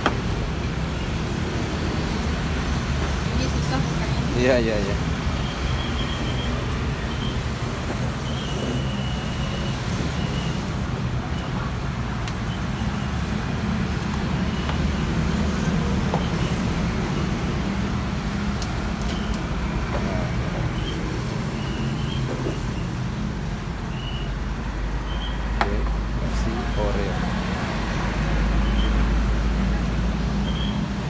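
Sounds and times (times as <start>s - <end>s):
passing cars and motorbikes: 0.0s - 31.0s.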